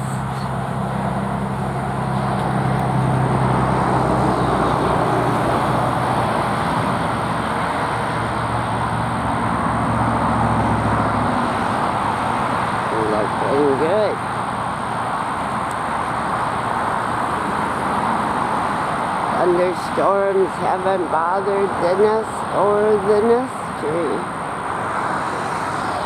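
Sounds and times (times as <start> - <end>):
low engine hum: 0.0 - 26.0
road traffic rushing: 0.0 - 26.0.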